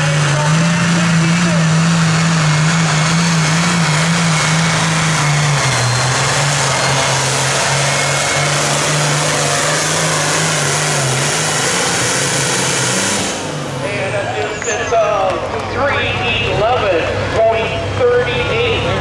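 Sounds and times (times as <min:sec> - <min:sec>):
pulling tractor engine droning: 0:00.0 - 0:19.0.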